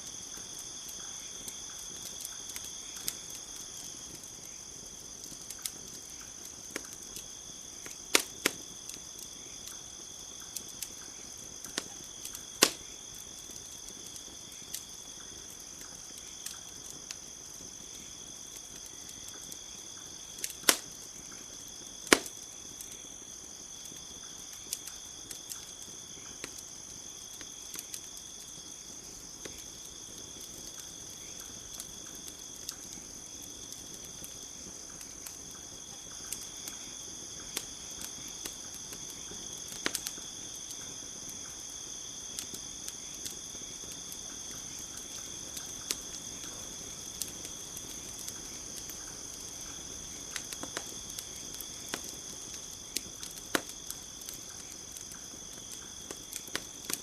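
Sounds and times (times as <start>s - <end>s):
crickets chirring: 0.0s - 57.0s
wood fire crackling and popping: 0.0s - 57.0s.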